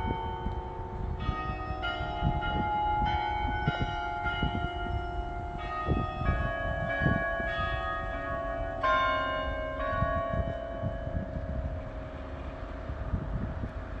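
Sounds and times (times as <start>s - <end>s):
church bells ringing: 0.0s - 14.0s.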